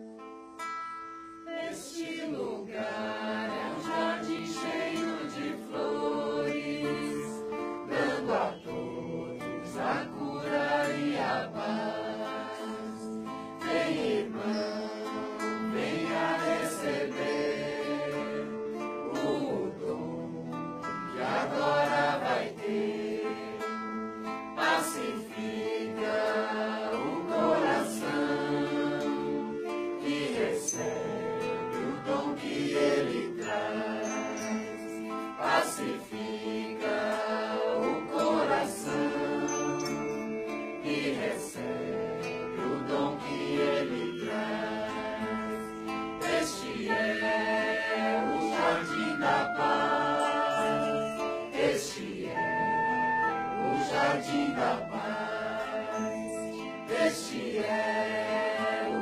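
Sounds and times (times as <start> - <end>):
choir singing: 1.4 - 59.0.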